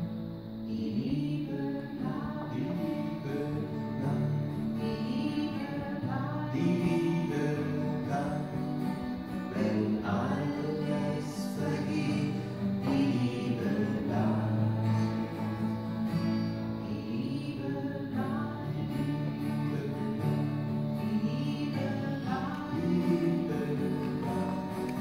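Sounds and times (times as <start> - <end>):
people singing worship song: 0.0 - 25.0
strummed acoustic guitar: 0.0 - 25.0.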